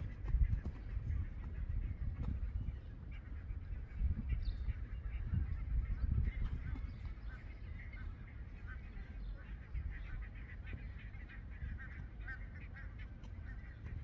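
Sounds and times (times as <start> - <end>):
geese honking: 0.0 - 14.0
steady low rumble: 0.0 - 14.0.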